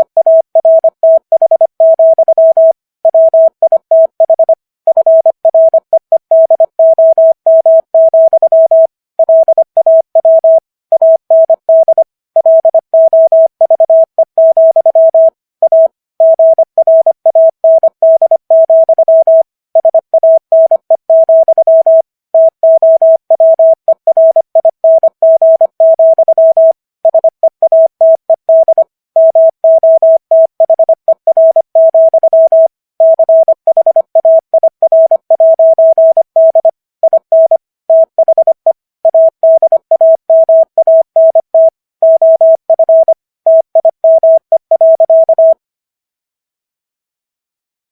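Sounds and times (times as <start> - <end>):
morse code tone: 0.0 - 45.6.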